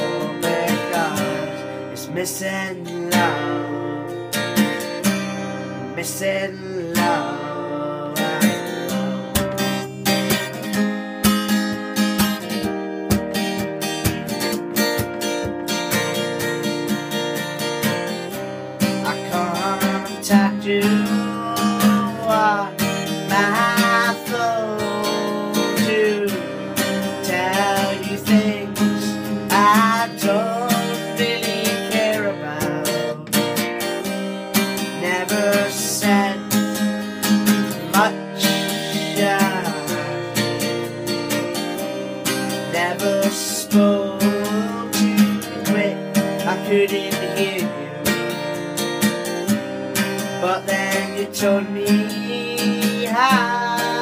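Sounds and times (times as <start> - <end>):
man singing: 0.0 - 11.0, 17.8 - 48.5, 49.2 - 54.0
acoustic guitar strumming: 0.0 - 54.0.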